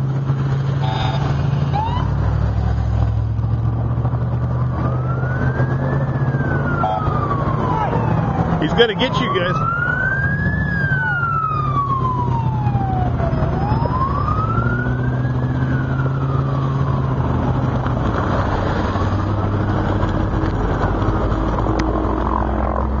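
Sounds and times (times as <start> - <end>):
emergency siren wailing: 0.6 - 23.0.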